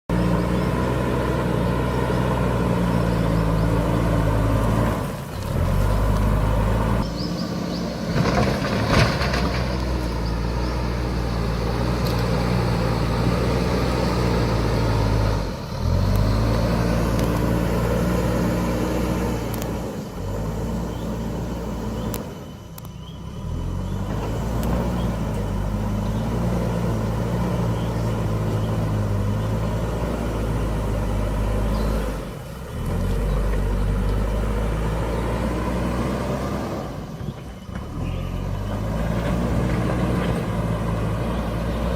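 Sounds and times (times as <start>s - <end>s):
diesel engine revving: 0.1s - 41.9s.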